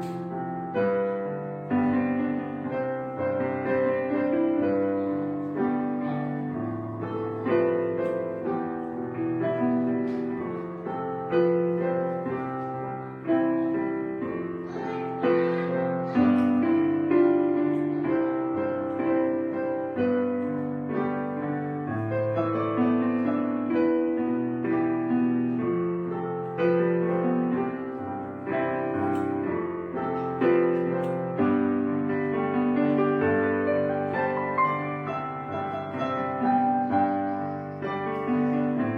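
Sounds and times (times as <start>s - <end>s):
slow piano music: 0.0s - 38.9s.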